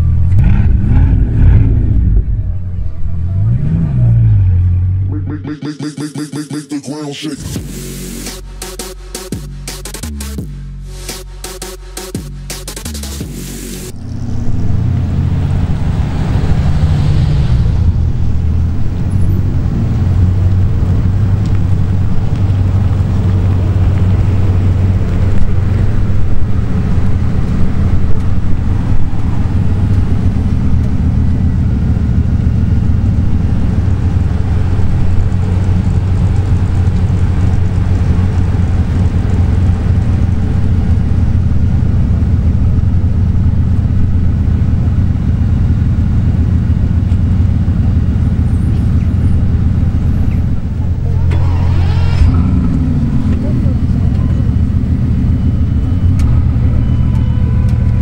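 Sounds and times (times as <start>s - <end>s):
supercar engines rumbling: 0.0s - 58.0s.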